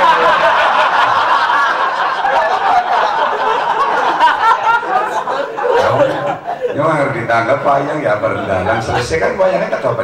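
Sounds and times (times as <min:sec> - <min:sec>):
men laughing: 0:00.0 - 0:07.2, 0:08.0 - 0:09.4.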